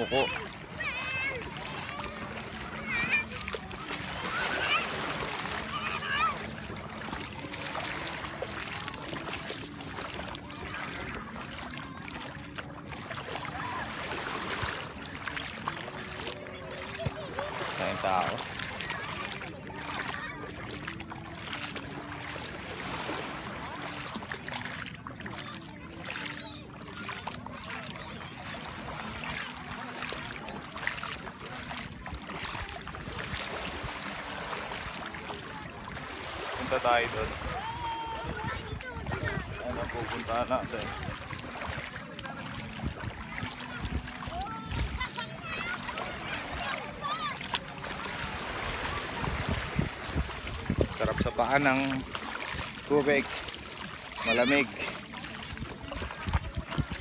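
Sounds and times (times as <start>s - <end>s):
seawater lapping around legs: 0.0s - 57.0s.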